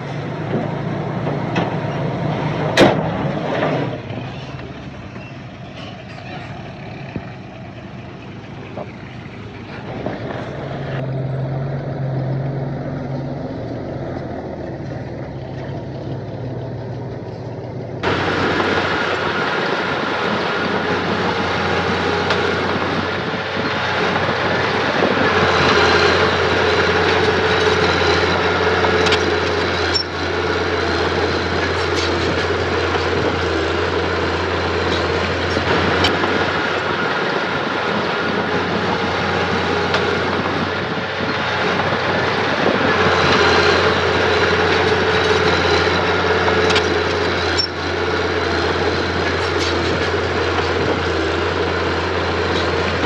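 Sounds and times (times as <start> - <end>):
earthmoving machinery engines: 0.0 - 53.0.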